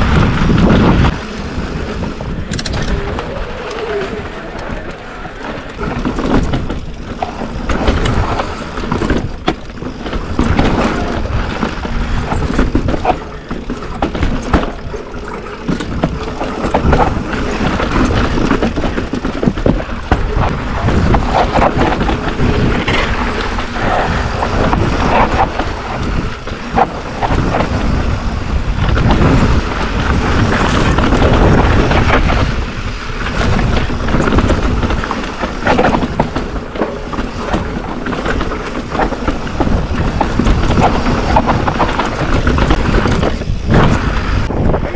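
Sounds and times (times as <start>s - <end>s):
bike rattling and knocking: 0.0s - 3.2s, 4.8s - 44.5s
wind buffeting microphone: 0.0s - 4.9s, 5.7s - 44.9s
tyres rolling over dirt and rock: 0.0s - 44.7s.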